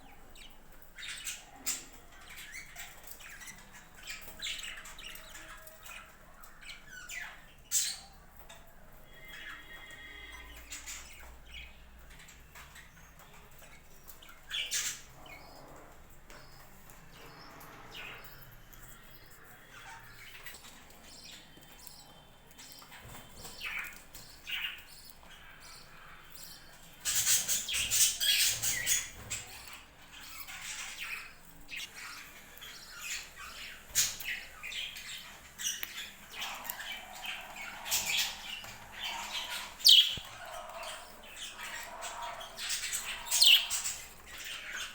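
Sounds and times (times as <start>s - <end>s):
budgerigars chirping and squawking: 0.0s - 44.9s.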